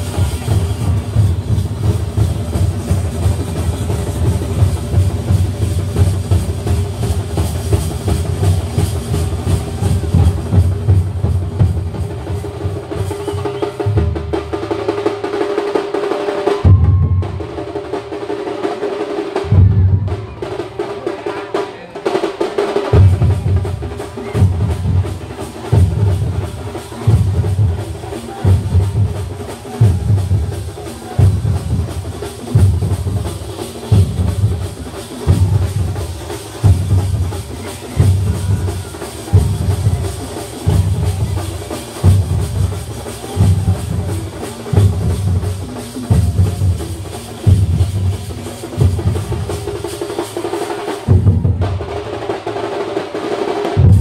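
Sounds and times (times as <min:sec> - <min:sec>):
deep drum beats: 0:00.0 - 0:15.5, 0:16.6 - 0:18.2, 0:19.3 - 0:21.3, 0:22.0 - 0:50.4, 0:51.0 - 0:52.5, 0:53.7 - 0:54.0
continuous drumming: 0:00.0 - 0:54.0.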